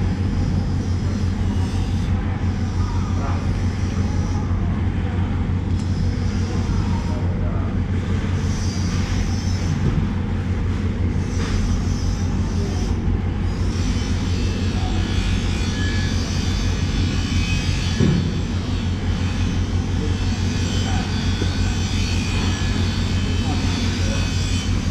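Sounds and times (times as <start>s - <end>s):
low mechanical drone: 0.0s - 24.9s.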